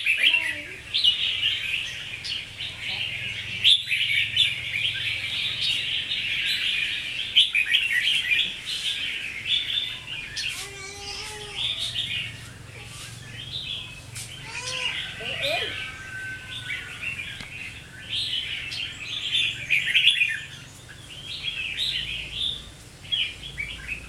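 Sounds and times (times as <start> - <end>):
bulbuls singing and chattering: 0.0 - 24.0.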